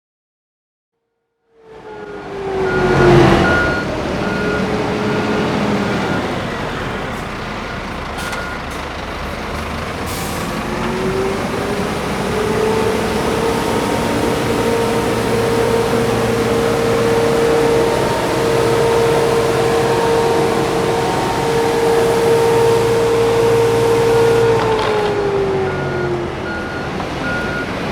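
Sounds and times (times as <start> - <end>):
rising whine: 1.6 - 7.2, 10.5 - 27.7
road sweeper truck running: 1.7 - 27.9.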